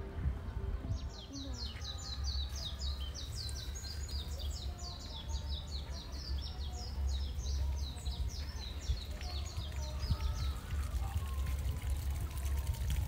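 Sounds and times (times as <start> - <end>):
birds chirping: 0.8 - 12.3.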